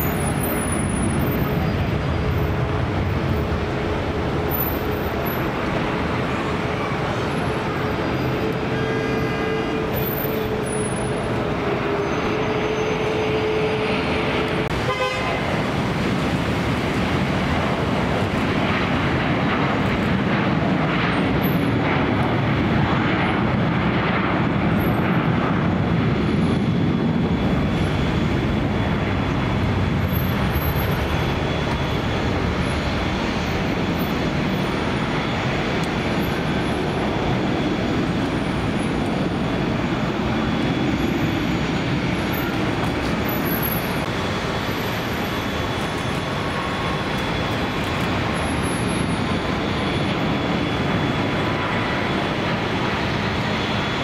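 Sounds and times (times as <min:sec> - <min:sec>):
jet engines at takeoff power: 0:00.0 - 0:54.0.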